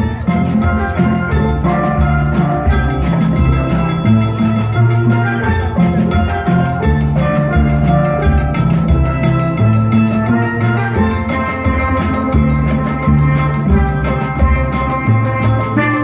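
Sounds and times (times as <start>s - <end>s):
steel drum band playing: 0.0s - 16.0s.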